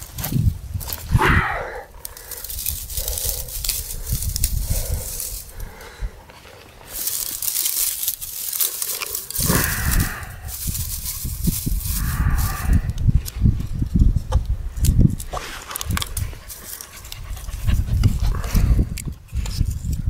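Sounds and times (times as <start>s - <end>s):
dry grass rustling and crackling: 0.0s - 20.0s.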